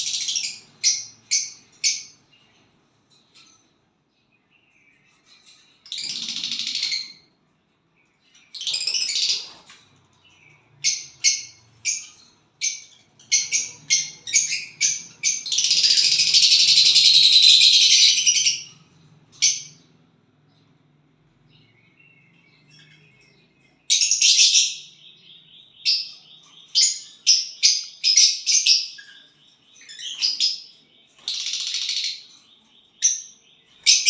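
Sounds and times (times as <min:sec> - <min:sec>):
small bird singing buzzy trills: 0:00.0 - 0:34.0.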